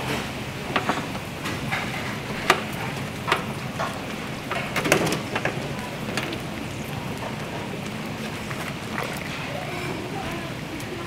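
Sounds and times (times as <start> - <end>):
broth boiling hard: 0.0 - 11.0.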